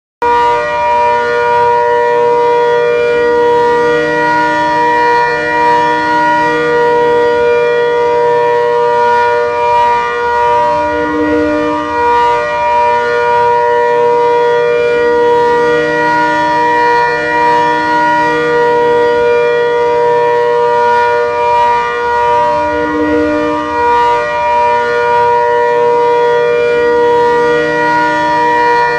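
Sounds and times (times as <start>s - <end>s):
siren multi-tone wail: 0.2s - 28.9s.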